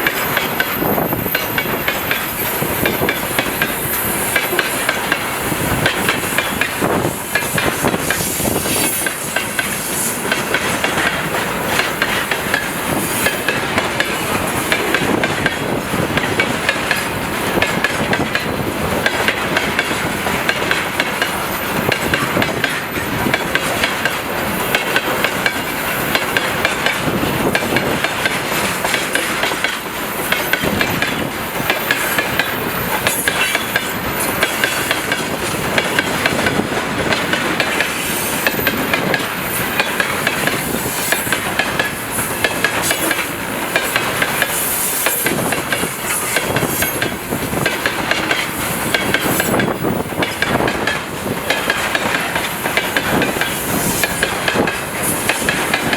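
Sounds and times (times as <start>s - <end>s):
train wheels clattering over rail joints: 0.0s - 55.9s.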